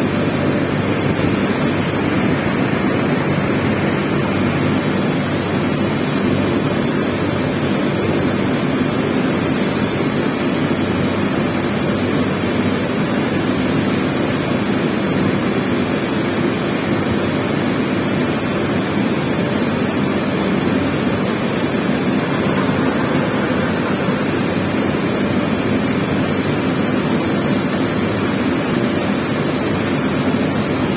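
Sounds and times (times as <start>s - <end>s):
printing press running: 0.0s - 30.9s.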